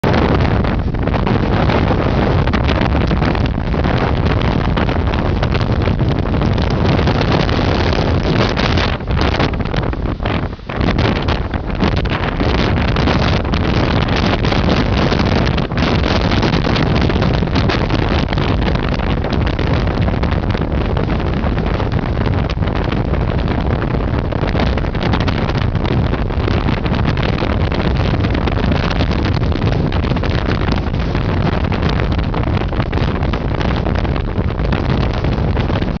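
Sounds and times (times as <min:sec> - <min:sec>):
storm wind buffeting microphone: 0:00.0 - 0:36.0.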